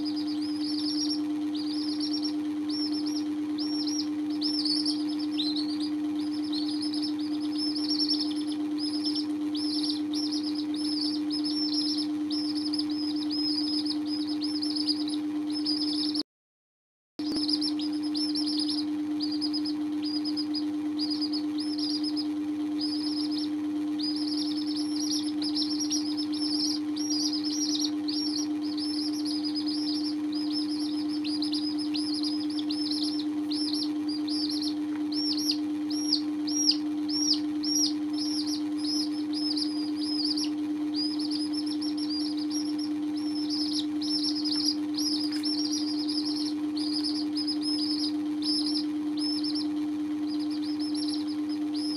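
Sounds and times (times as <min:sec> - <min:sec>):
chicks peeping: 0:00.0 - 0:16.2, 0:17.2 - 0:51.9
steady low hum: 0:00.0 - 0:16.2, 0:17.2 - 0:51.9.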